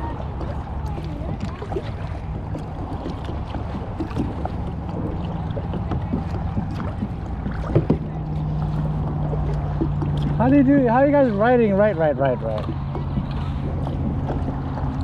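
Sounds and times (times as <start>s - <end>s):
water sloshing around paddle: 0.0s - 15.0s.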